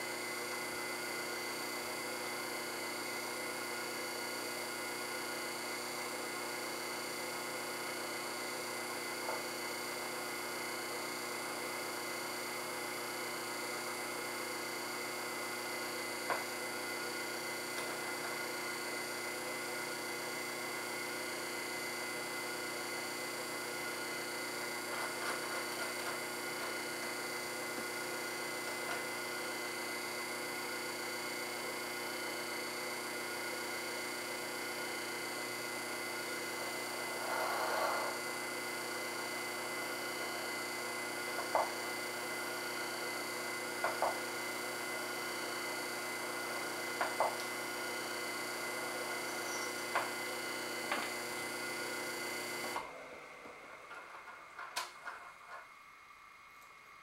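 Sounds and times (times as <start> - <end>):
metal lathe hum and whine: 0.0 - 54.5.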